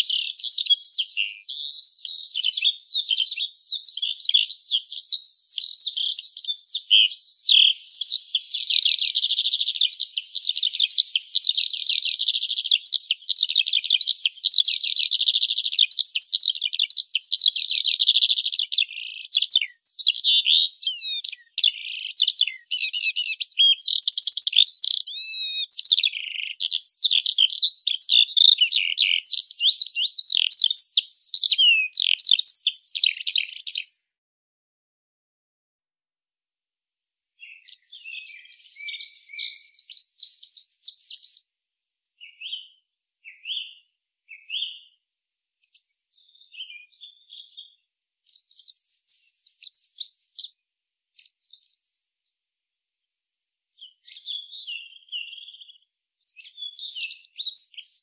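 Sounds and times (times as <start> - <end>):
bird chirps trills and whistles: 0.0 - 34.0, 37.2 - 41.6, 42.2 - 45.0, 45.6 - 50.6, 51.2 - 52.1, 53.4 - 58.0.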